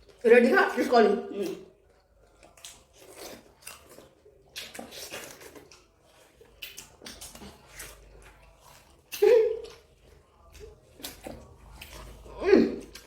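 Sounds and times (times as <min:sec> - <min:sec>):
wet bites and chewing: 0:01.4 - 0:13.0.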